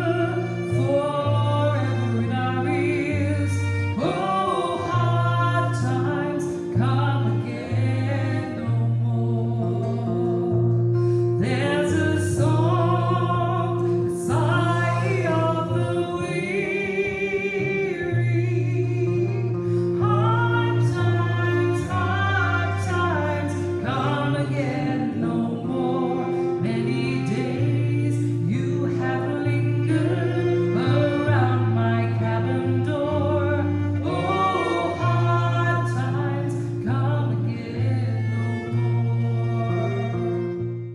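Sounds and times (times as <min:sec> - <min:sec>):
acoustic guitar: 0:00.0 - 0:40.9
fiddle holding long notes: 0:00.0 - 0:40.9
woman singing folk song: 0:00.0 - 0:40.9.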